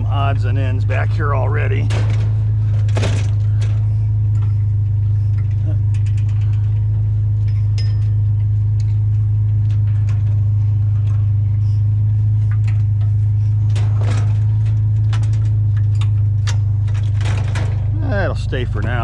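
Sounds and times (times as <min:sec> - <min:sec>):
truck engine drone: 0:00.0 - 0:19.0
light clicks and rattles: 0:00.9 - 0:19.0.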